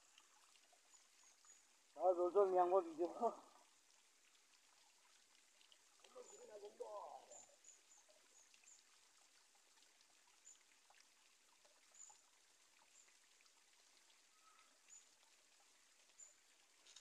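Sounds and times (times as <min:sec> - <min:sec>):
water drips: 0:00.0 - 0:17.0
water trickling from a pipe: 0:00.0 - 0:17.0.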